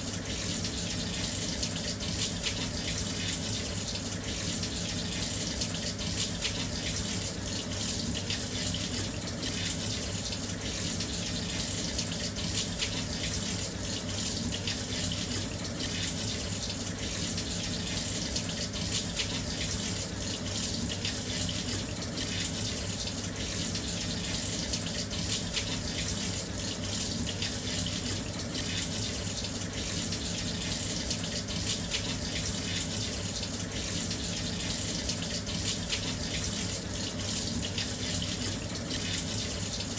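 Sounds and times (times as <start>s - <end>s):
water pouring into washing machine: 0.0s - 39.9s.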